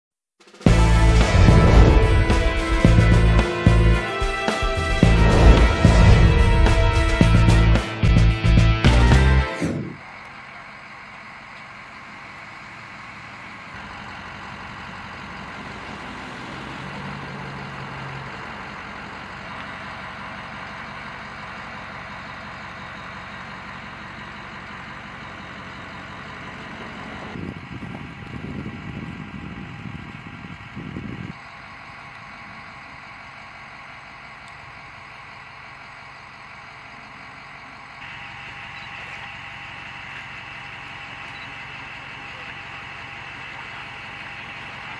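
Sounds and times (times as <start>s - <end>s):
heavy vehicle engine idling: 0.7s - 44.9s.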